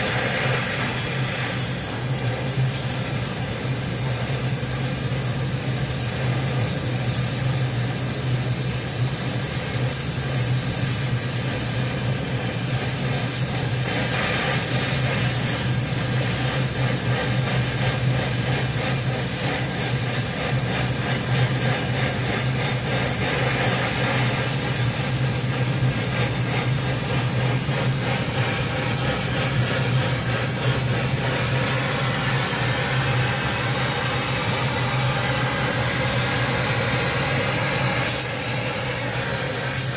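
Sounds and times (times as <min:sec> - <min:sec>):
welding torch flame hissing: 0:00.0 - 0:39.9.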